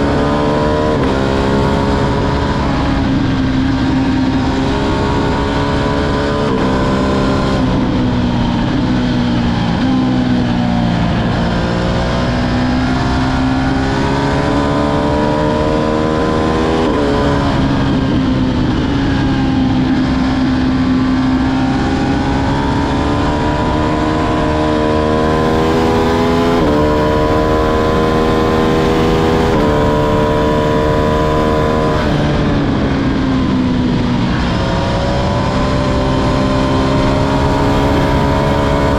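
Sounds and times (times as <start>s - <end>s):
motorcycle engine accelerating through gears: 0.0s - 38.9s.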